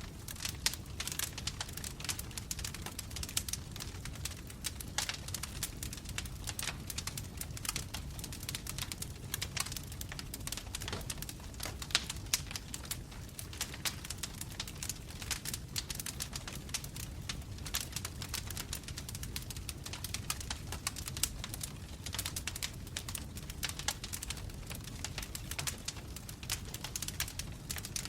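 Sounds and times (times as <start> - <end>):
logs crackling in fireplace: 0.0 - 28.0.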